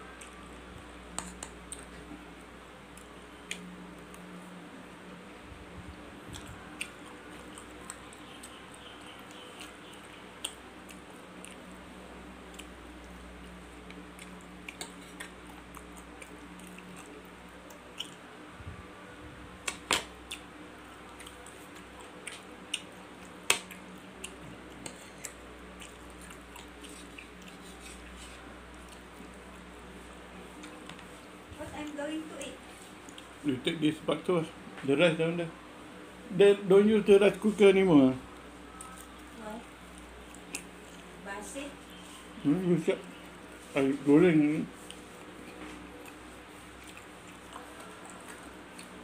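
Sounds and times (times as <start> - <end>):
soft chewing: 0.0 - 5.3, 5.9 - 18.9, 19.6 - 33.7, 38.2 - 49.0
faint low hum: 0.0 - 49.0.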